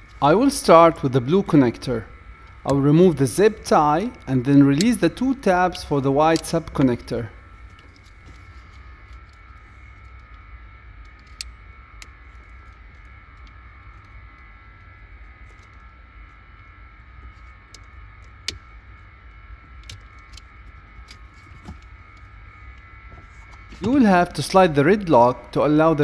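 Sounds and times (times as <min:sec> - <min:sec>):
faint hum and rumble: 0:00.0 - 0:26.0.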